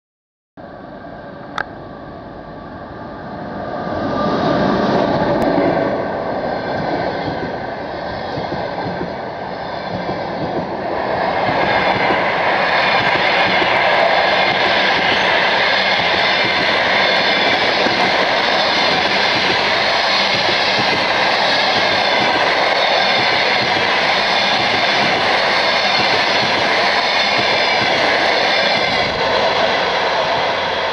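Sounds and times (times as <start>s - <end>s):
train wheels rumbling on rails: 3.2s - 30.9s.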